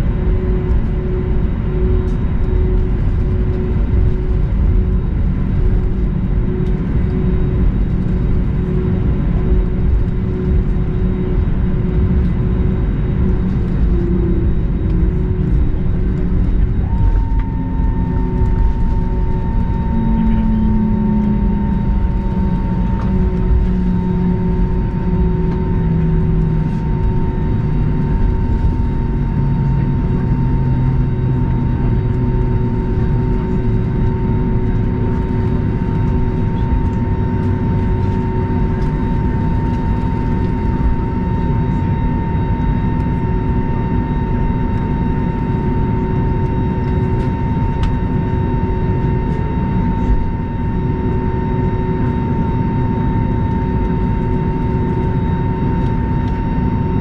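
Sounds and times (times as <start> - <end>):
airliner cabin engine rumble: 0.0 - 57.0
constant mid-pitched whine: 0.0 - 57.0
low engine hum falling: 0.0 - 57.0.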